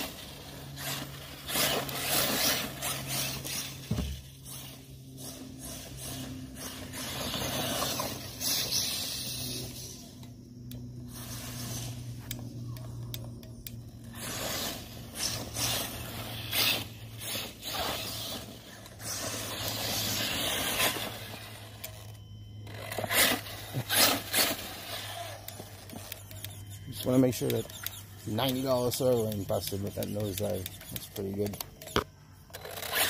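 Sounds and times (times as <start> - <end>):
rc truck motor and tyres: 0.0 - 33.0.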